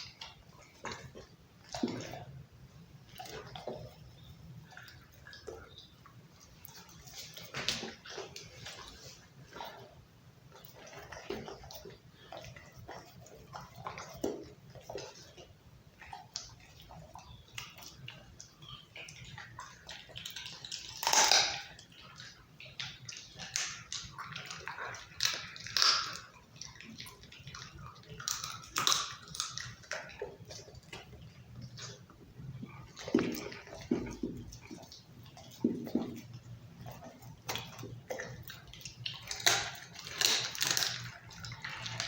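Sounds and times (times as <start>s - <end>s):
dog chewing raw meat: 0.0s - 42.0s.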